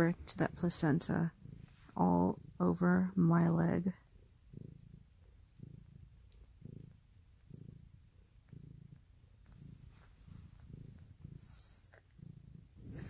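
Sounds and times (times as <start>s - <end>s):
cat purring faintly: 0.0s - 13.0s.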